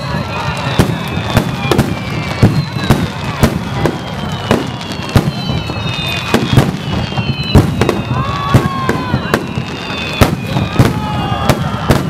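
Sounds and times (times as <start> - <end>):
high firework whistles: 0.0 - 12.0.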